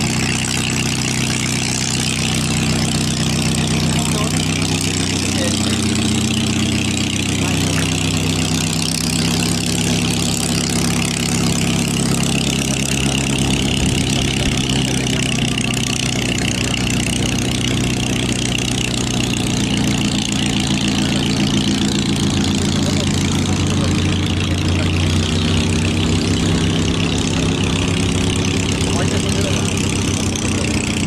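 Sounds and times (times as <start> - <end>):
aircraft piston engine idling: 0.0 - 31.0.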